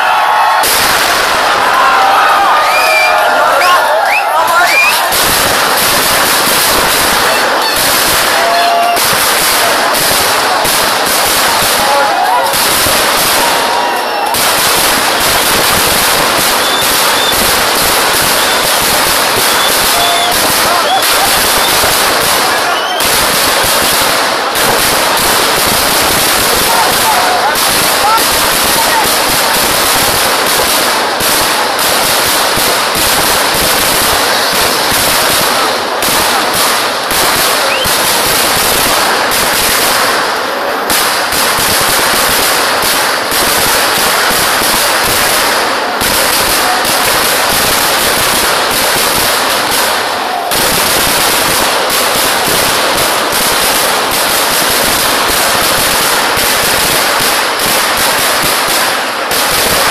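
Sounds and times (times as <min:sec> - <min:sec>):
fireworks rapid cracking explosions: 0:00.0 - 0:59.9.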